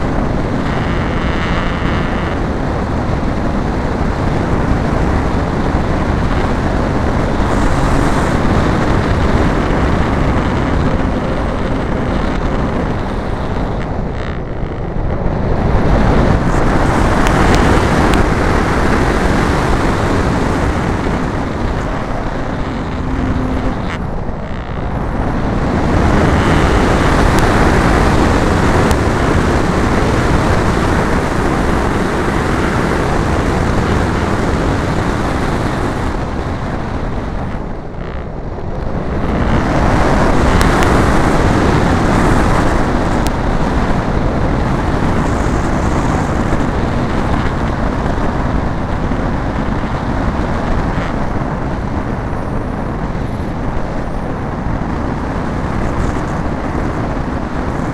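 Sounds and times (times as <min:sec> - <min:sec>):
wind rushing over camera: 0:00.0 - 0:57.9.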